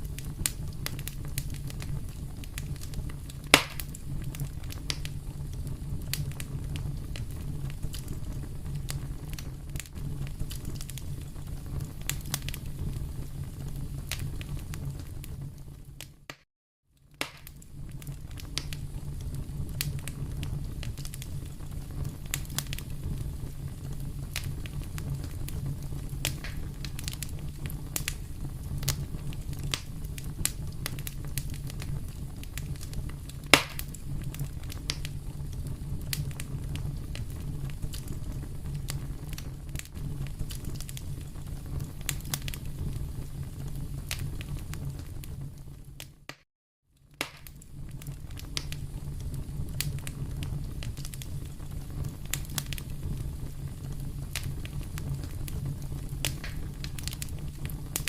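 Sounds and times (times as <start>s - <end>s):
fire crackling and popping: 0.0s - 16.4s, 17.0s - 46.4s, 47.0s - 58.0s
fire burning in fireplace: 0.0s - 58.0s.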